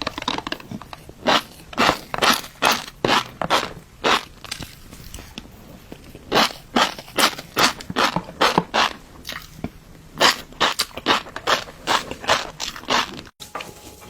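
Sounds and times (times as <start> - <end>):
chewing crunches and pops: 0.0 - 13.4.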